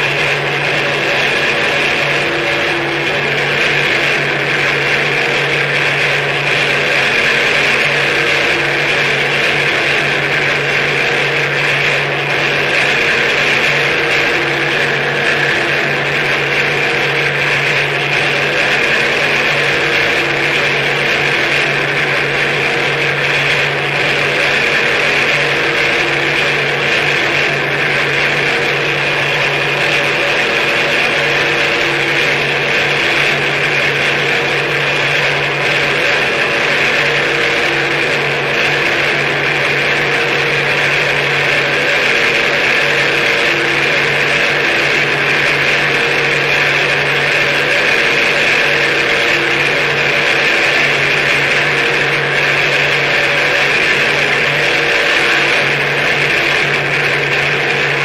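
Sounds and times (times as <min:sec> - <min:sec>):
distorted noise music: 0:00.0 - 0:58.0
low drone: 0:00.0 - 0:58.0.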